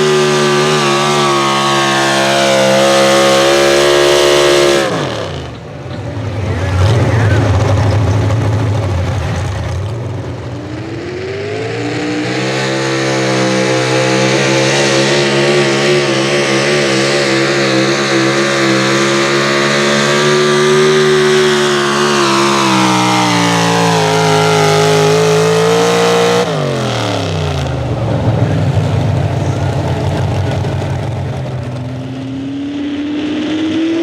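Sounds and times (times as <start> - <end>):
truck engine revving under load: 0.0 - 34.0.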